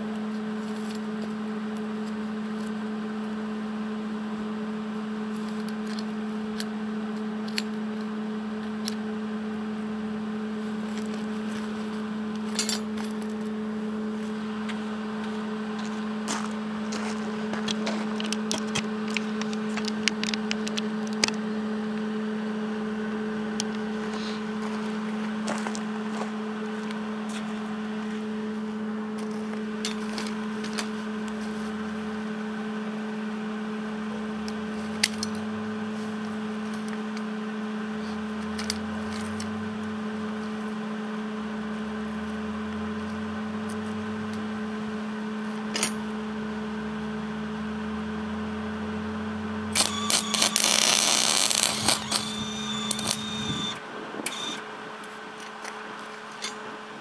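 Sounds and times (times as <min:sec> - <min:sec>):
lower hum: 0:00.0 - 0:57.0
steady electrical hum: 0:00.0 - 0:57.0.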